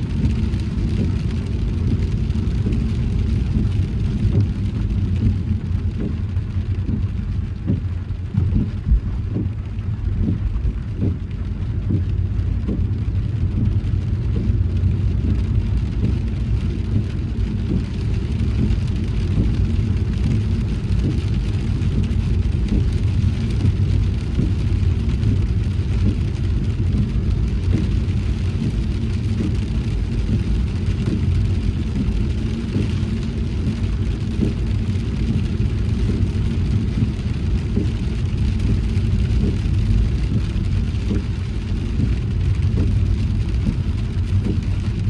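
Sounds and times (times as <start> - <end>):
car tyres and engine rumbling: 0.0 - 45.0
rain pattering: 0.0 - 45.0.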